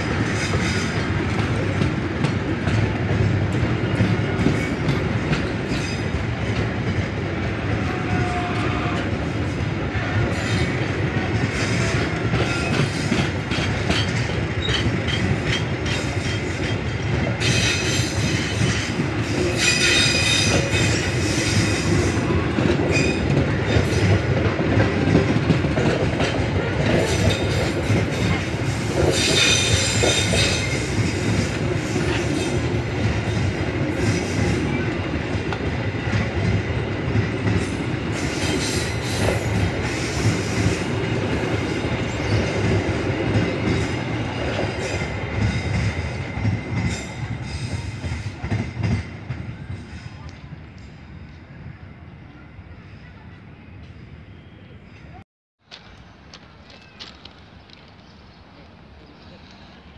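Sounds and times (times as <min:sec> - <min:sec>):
train wheels rumbling and clacking: 0:00.0 - 0:52.0.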